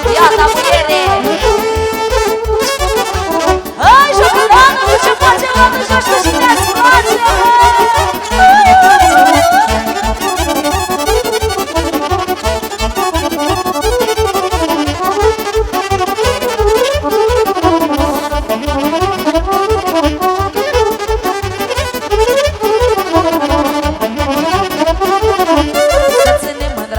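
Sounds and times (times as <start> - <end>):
wavering high melody: 0.0 - 26.8
accordion playing fast runs: 0.0 - 26.9
steady beat: 0.0 - 26.9.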